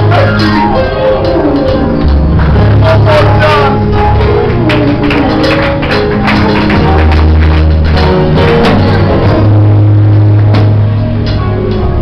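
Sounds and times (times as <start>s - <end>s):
loud music with bass and drums: 0.0s - 12.0s.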